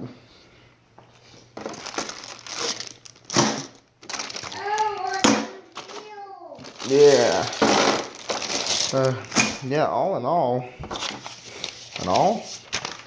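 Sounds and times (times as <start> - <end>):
plastic packaging crinkling: 1.1 - 9.5, 10.9 - 13.0.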